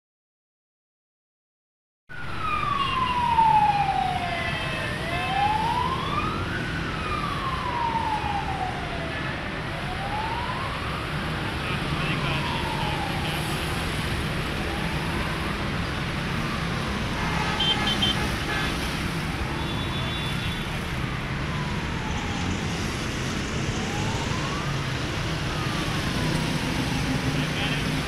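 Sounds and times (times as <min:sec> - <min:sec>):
road traffic rumble: 0:02.1 - 0:28.0
siren wailing: 0:02.1 - 0:28.0.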